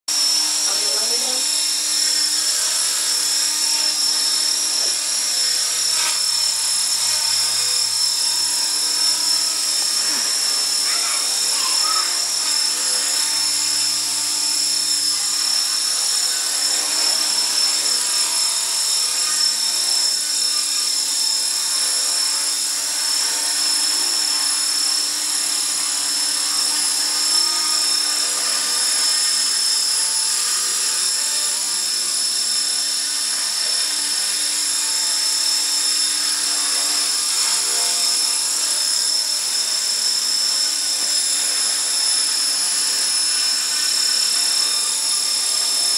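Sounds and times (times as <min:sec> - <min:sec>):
rc helicopter motor whine: 0:00.1 - 0:45.9.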